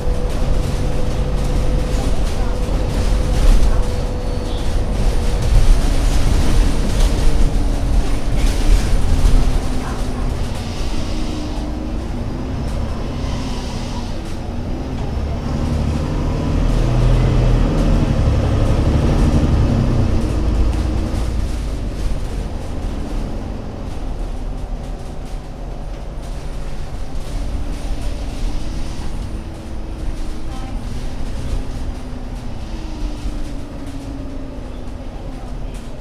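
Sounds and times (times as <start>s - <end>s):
bus engine rumbling: 0.0s - 36.0s.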